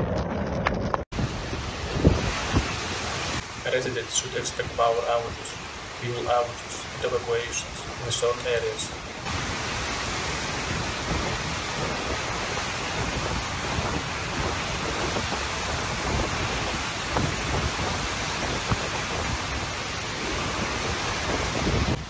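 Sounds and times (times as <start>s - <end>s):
heavy rain and wind: 0.0s - 22.0s.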